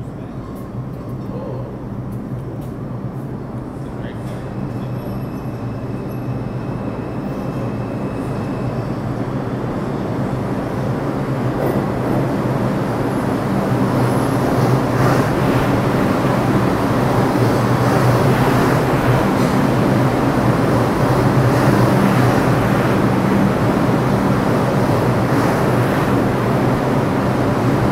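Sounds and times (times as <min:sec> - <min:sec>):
subway train rumbling on rails: 0:00.0 - 0:27.9.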